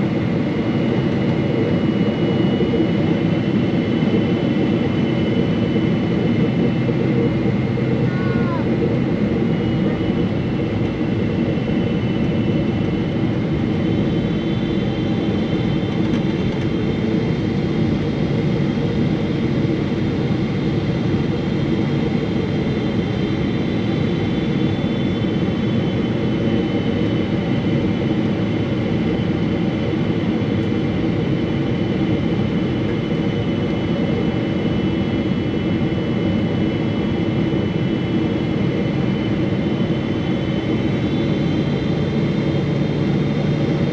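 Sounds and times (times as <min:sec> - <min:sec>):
jet engine and airflow hum: 0:00.0 - 0:43.9.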